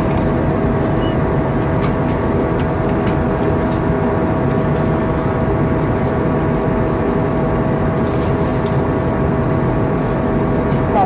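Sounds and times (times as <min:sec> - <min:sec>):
airplane cabin engine roar: 0:00.0 - 0:11.0
constant hum: 0:00.0 - 0:11.0.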